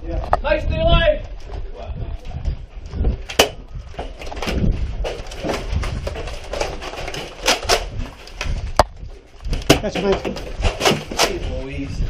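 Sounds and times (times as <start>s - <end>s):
low rumbling movement noise: 0.0s - 12.0s.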